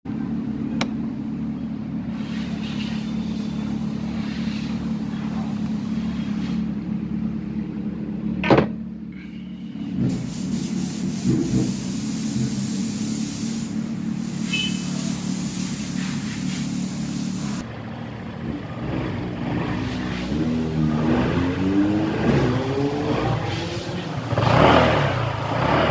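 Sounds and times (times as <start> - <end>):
scooter engine idling: 0.1 - 25.9.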